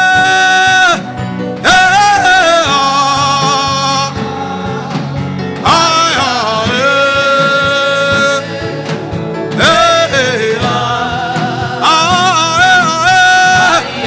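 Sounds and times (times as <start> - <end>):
steady beat: 0.0 - 14.0.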